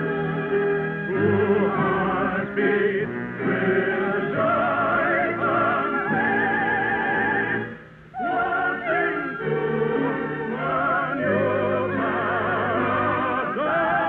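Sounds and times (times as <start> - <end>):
operatic singing with orchestra: 0.0 - 14.0.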